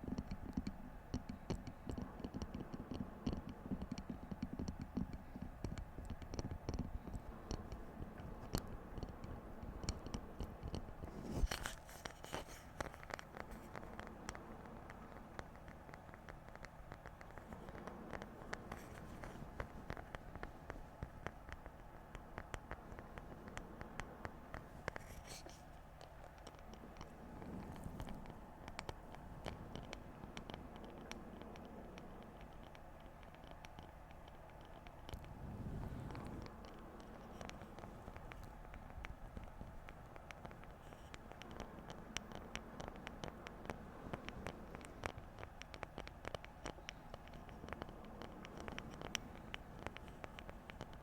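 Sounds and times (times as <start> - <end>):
light tapping on objects: 0.0 - 51.0.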